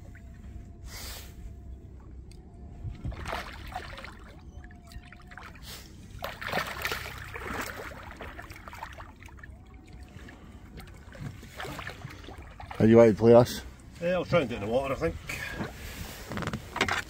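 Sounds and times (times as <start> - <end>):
water splashing against boat: 0.0 - 17.0.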